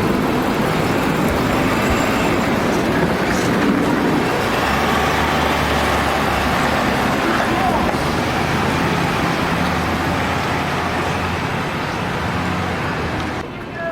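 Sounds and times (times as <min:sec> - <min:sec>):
ambulance engine running: 0:00.0 - 0:13.9
road traffic noise: 0:00.0 - 0:13.9.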